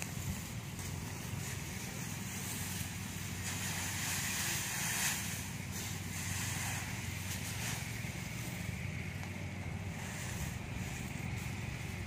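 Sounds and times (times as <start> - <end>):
broad hiss: 0.0 - 12.0
engine running with low hum: 0.0 - 12.0.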